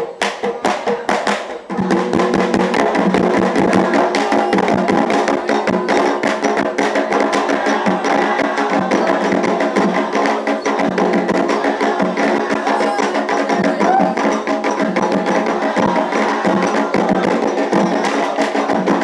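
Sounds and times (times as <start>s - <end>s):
hand drums: 0.0s - 19.0s
struck wood block percussion: 0.0s - 19.0s.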